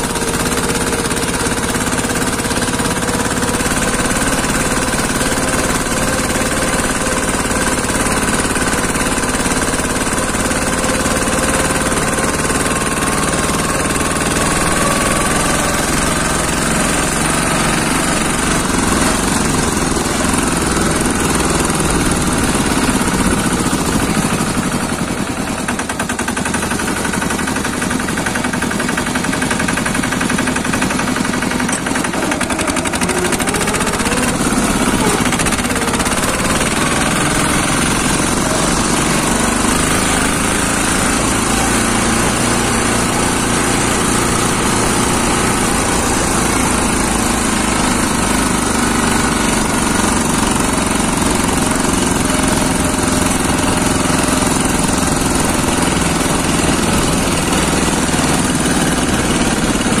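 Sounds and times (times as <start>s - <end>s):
diesel tractor engine chugging: 0.0s - 60.0s.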